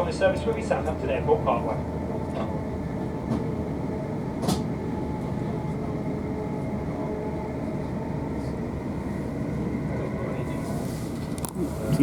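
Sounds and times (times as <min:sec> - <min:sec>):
train interior rumble: 0:00.0 - 0:12.0.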